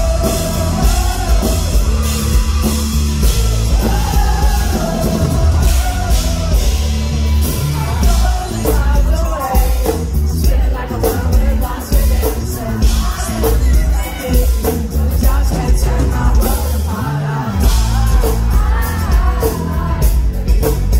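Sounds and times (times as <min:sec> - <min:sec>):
bass guitar: 0:00.0 - 0:20.9
drums: 0:00.0 - 0:20.9
electric and acoustic guitars: 0:00.0 - 0:20.9
person singing: 0:00.0 - 0:20.9.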